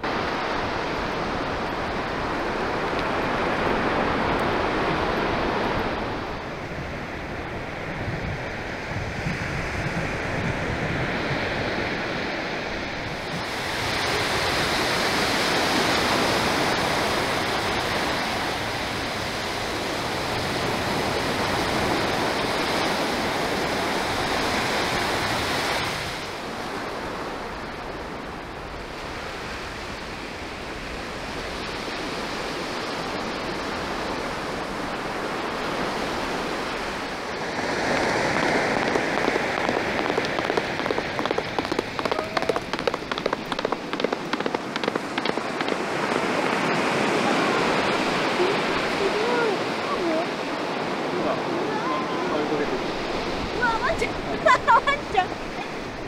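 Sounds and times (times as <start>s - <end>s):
surf washing onto beach: 0.0s - 56.0s.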